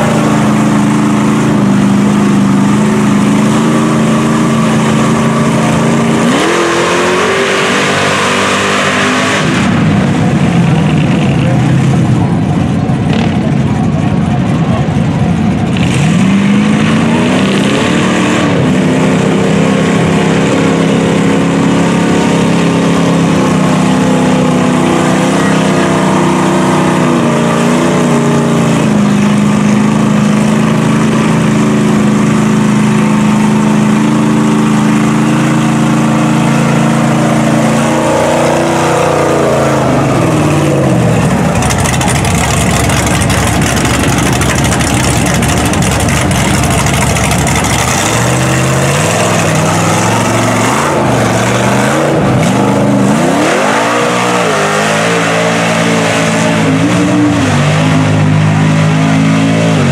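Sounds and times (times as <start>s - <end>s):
truck driving through mud: 0.0s - 59.9s
truck engine revving: 0.0s - 59.9s.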